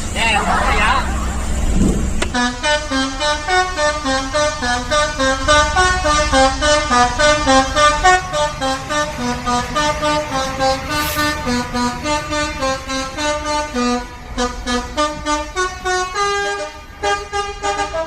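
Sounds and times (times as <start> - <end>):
musical air horn tune: 0.2 - 18.0.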